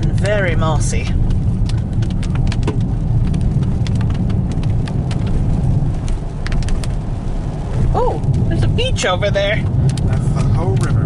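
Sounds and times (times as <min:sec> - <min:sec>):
raindrops ticking on car: 0:00.0 - 0:11.0
road rumble inside car: 0:00.0 - 0:11.0.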